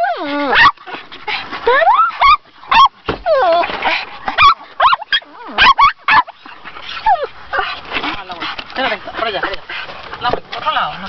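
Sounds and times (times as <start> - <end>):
dogs whining and yelping: 0.0 - 11.0.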